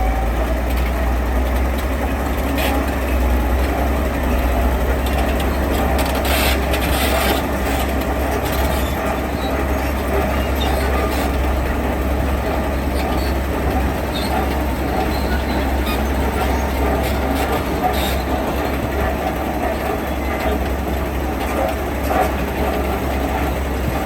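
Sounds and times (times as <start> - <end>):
diesel machinery rumbling: 0.0 - 24.0.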